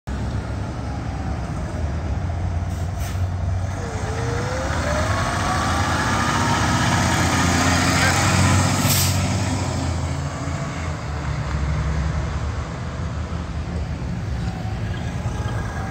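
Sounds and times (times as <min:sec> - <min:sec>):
fire engine diesel engine: 0:00.1 - 0:15.9.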